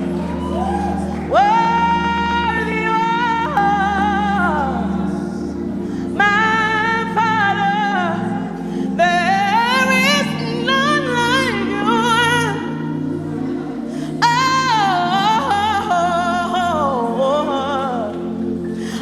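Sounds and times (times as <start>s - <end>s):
sustained keyboard chords: 0.0s - 19.0s
woman singing gospel: 0.0s - 19.0s.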